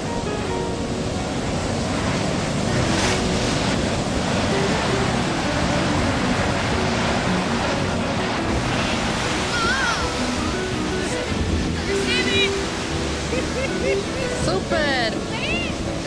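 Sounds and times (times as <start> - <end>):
ocean surf breaking on rocks: 0.0 - 16.0.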